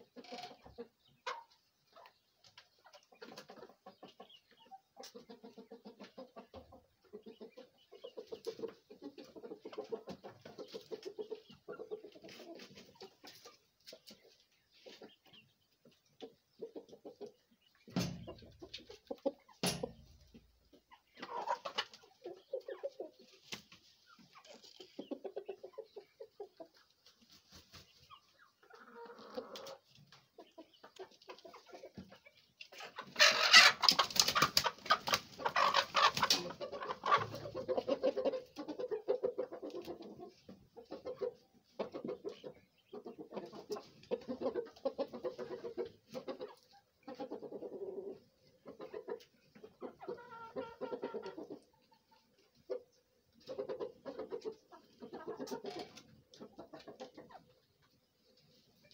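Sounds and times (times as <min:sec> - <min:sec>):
chickens clucking: 0:00.0 - 0:58.9.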